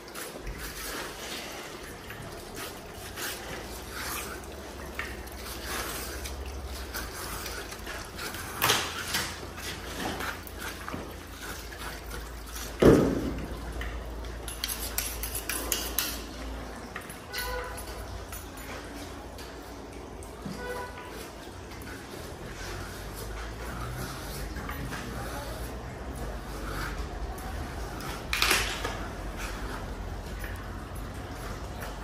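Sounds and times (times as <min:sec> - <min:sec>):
short wet scrapes: 0:00.0 - 0:32.0.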